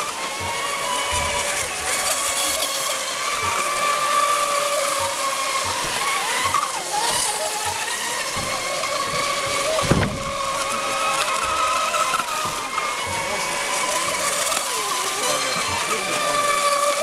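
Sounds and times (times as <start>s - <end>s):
rc boat motors whining: 0.0s - 17.0s.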